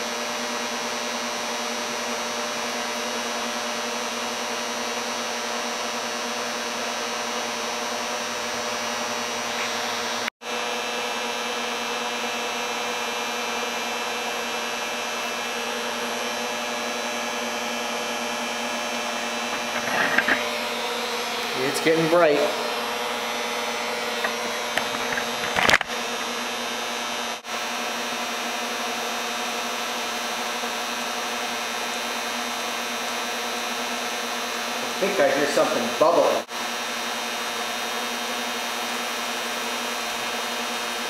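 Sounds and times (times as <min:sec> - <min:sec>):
induction heater whirring hum: 0:00.0 - 0:41.0.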